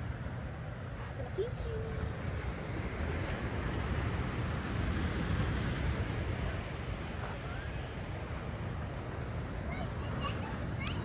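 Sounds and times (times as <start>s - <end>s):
surf washing: 0.0s - 11.0s
wind buffeting microphone: 0.0s - 11.0s.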